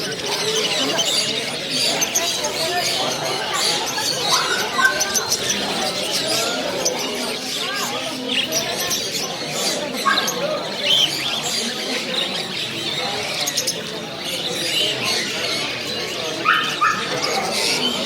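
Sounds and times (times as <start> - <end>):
birds chirping and squawking: 0.0 - 18.0
murmur of voices: 0.0 - 18.0.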